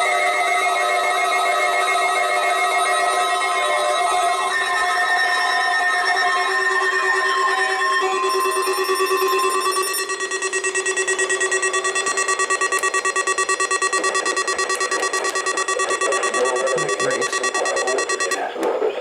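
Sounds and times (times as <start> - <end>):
pulsing electronic alert alarm: 2.8 - 18.5.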